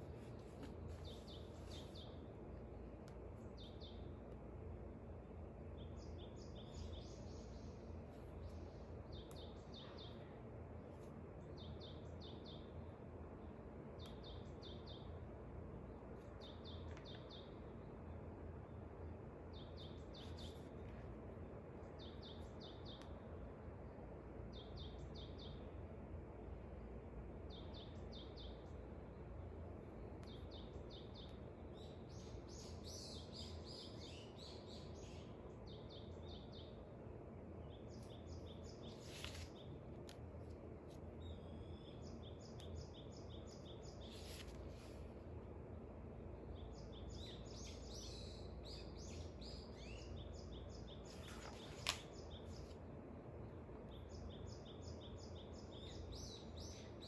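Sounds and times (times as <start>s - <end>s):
low background hiss: 0.0s - 57.0s
songbirds chirping: 0.0s - 57.0s.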